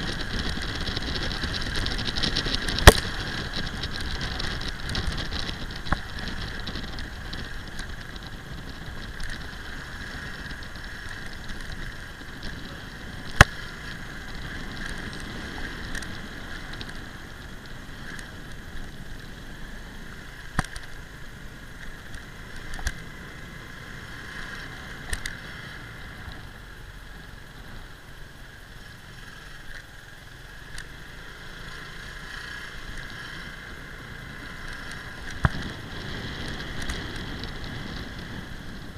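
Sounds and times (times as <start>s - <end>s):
motorbike riding noise: 0.0s - 38.9s.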